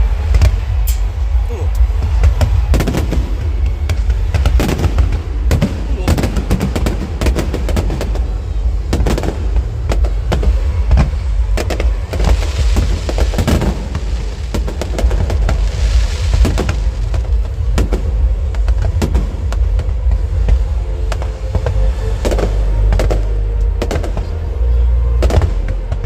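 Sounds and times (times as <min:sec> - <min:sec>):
deep continuous rumble: 0:00.0 - 0:26.0
firework bangs and crackles: 0:00.0 - 0:26.0.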